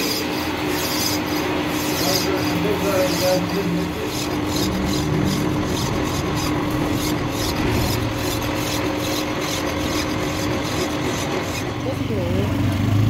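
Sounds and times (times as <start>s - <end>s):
hand tool filing metal: 0.0s - 12.3s
steady machine hum: 0.0s - 13.0s.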